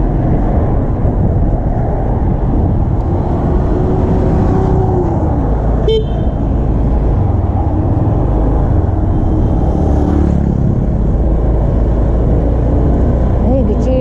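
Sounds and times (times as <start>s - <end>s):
motorbikes and cars passing: 0.0s - 14.0s.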